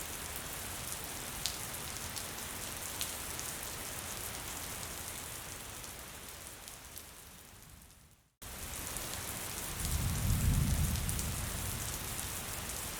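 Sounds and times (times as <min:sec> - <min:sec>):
light rain: 0:00.0 - 0:12.9.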